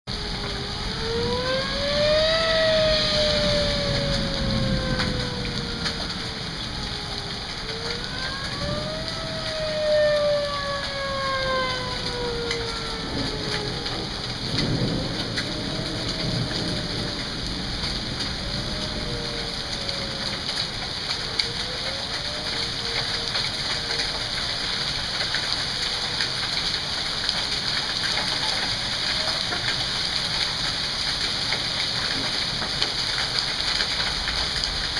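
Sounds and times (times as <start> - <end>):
warning siren wailing: 0.1 - 34.0
heavy rain: 0.1 - 34.9
thunder rumbles: 0.1 - 34.9.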